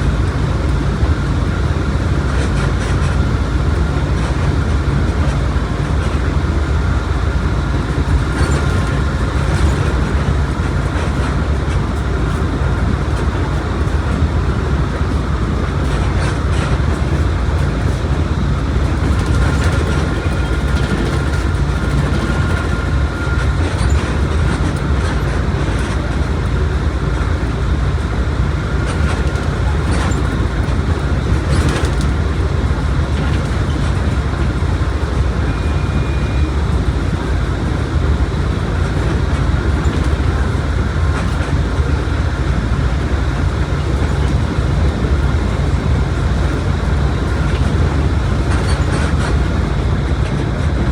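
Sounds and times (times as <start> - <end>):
bus diesel engine rumble: 0.0 - 50.9.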